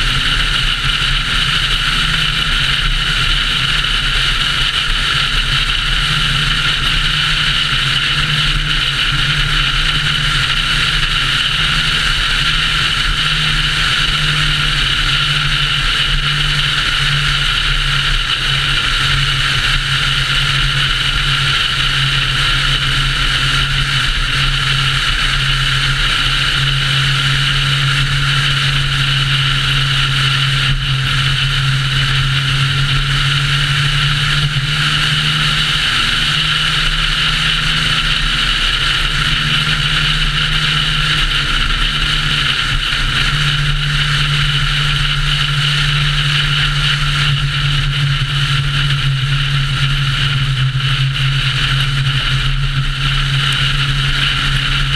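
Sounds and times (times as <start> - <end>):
car engine drone: 0.0 - 54.9
road and wind noise: 0.0 - 54.9.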